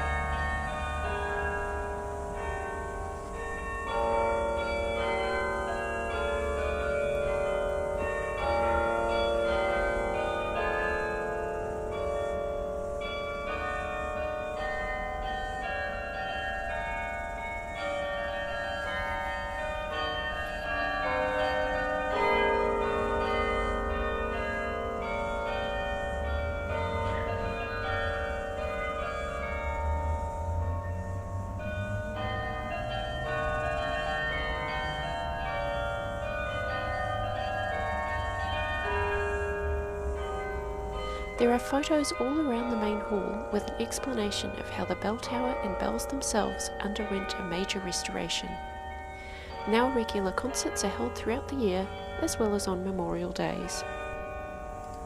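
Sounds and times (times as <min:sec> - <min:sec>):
carillon bells playing slow melody: 0:00.0 - 0:55.0.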